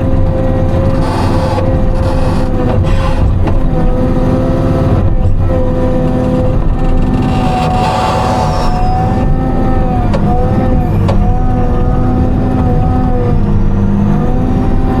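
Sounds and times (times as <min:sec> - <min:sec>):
diesel engine and hydraulics whine: 0:00.0 - 0:15.0.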